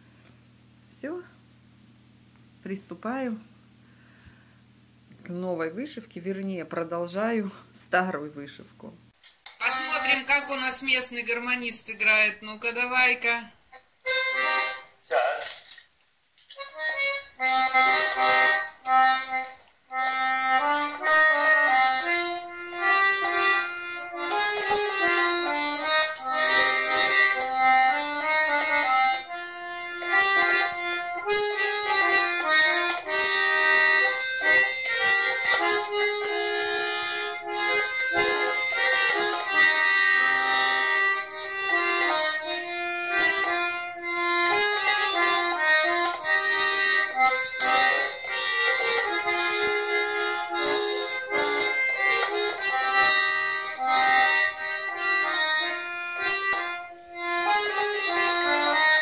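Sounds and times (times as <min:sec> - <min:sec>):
button accordion playing a tune: 0:09.6 - 0:15.7, 0:16.4 - 0:59.0.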